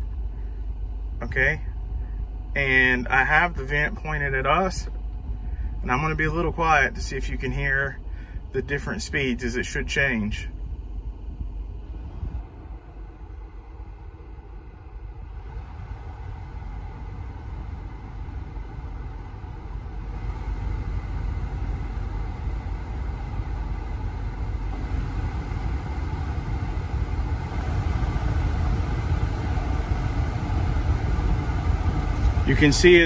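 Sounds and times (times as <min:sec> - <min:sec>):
blower fan blowing air: 0:00.0 - 0:33.0.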